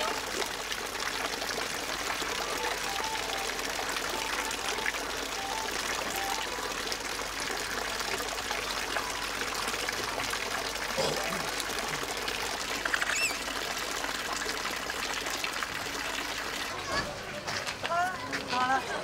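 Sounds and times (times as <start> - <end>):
water pouring and trickling: 0.0 - 19.0.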